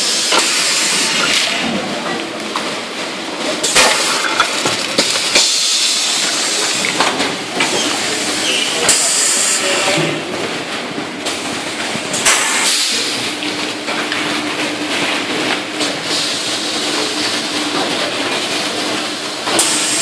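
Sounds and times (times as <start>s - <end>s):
sealing machine hiss and hum: 0.0s - 20.0s.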